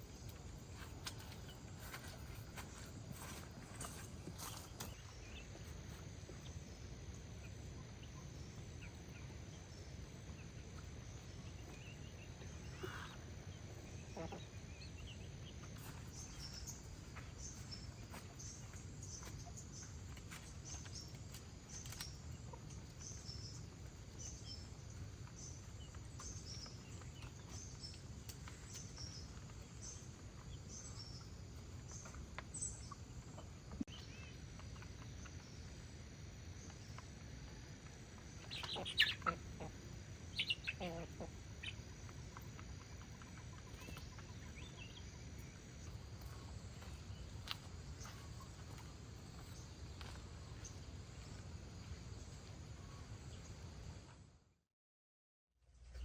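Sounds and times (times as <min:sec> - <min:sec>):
small bird chirping: 0:00.0 - 0:35.7, 0:36.6 - 0:51.4.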